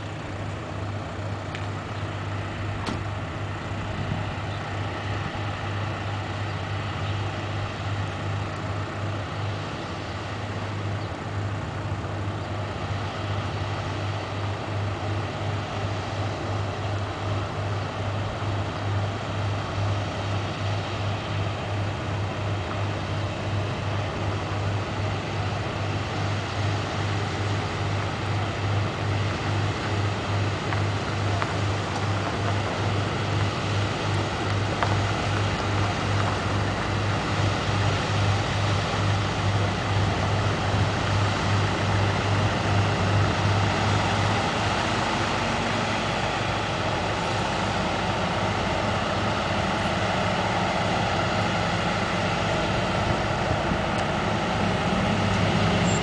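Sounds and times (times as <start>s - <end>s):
ferry diesel engine throbbing: 0.0s - 56.0s.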